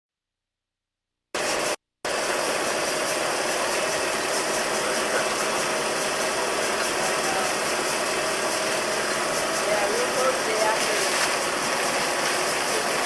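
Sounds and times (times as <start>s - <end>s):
gunite machine and air compressor: 1.4s - 13.0s.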